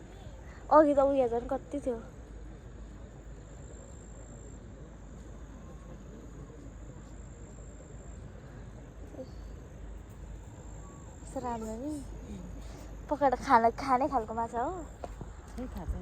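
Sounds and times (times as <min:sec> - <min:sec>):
night insects trilling: 0:00.0 - 0:16.0.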